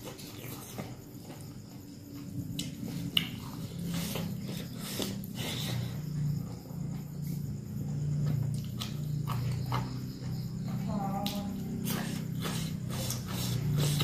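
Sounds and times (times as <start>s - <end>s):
chewing and lip-smacking: 0.0s - 7.0s, 8.2s - 14.0s.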